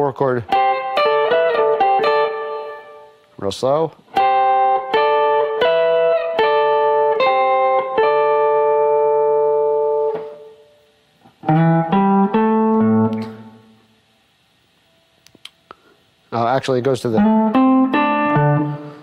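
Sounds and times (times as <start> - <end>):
electric guitar blues riff: 0.0 - 13.9, 16.9 - 19.0.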